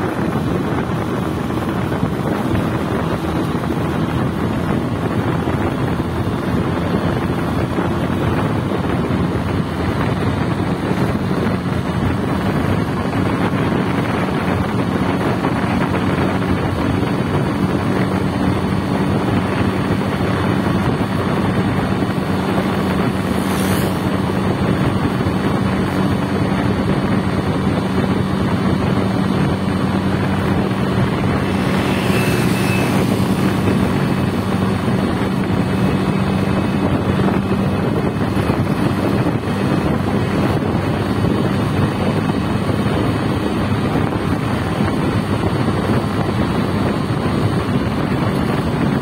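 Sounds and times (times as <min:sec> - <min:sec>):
motorcycle engine cruising: 0:00.0 - 0:49.0
wind rushing over microphone: 0:00.0 - 0:49.0.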